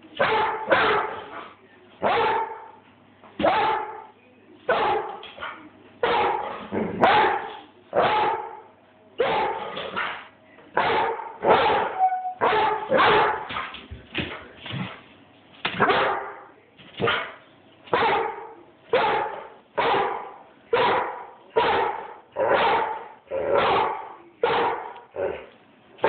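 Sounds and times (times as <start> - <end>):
dog barking: 0.2 - 2.8, 3.4 - 4.1, 4.7 - 8.6, 9.2 - 13.7, 15.8 - 25.5.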